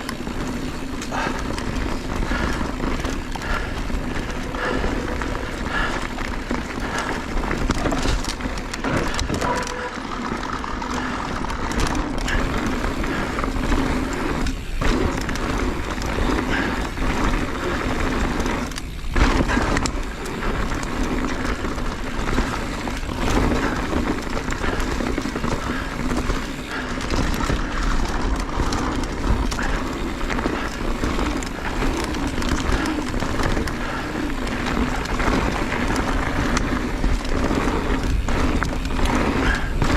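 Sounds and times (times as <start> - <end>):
bike knocks and rattles: 0.0 - 39.9
bike tyres rolling over rock: 0.0 - 39.9.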